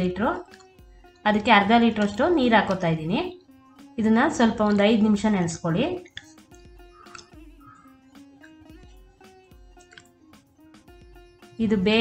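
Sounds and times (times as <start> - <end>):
soft plucked-string music: 0.0 - 12.0.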